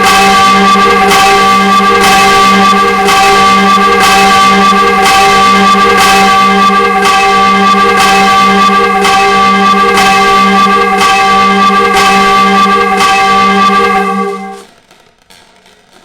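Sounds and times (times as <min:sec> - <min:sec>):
church bells ringing: 0:00.0 - 0:14.6.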